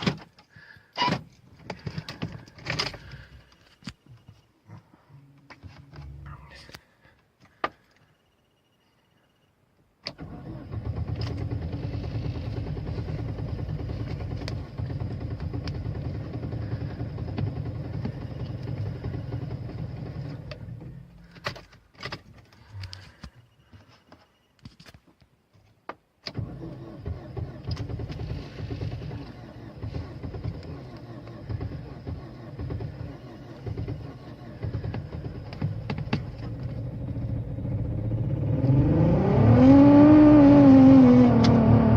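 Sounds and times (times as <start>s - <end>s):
car engine starting and rumbling: 0.0s - 8.7s, 9.8s - 24.0s, 26.2s - 41.9s.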